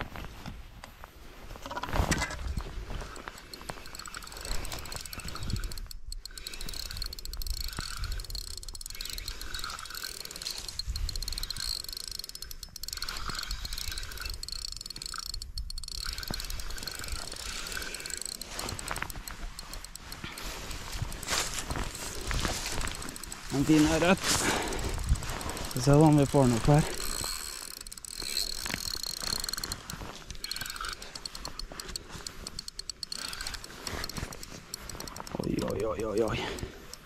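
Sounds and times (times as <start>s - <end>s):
fishing reel gears whirring: 1.7s - 37.0s.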